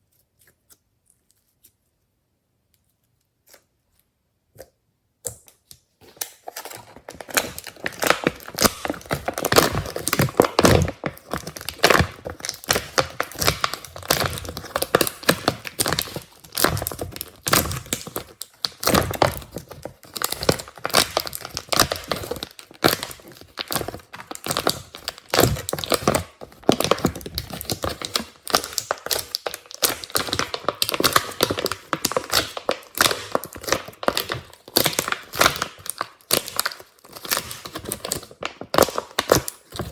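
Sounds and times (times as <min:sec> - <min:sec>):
slime crackling and popping: 0:05.3 - 0:39.9.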